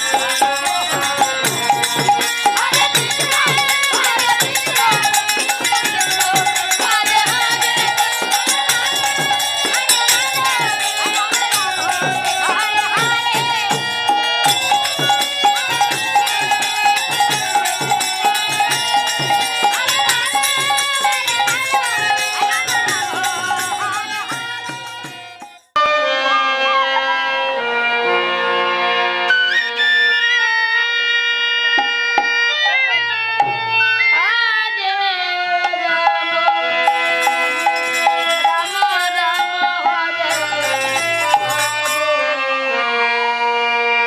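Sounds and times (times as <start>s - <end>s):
devotional music: 0.0s - 44.0s.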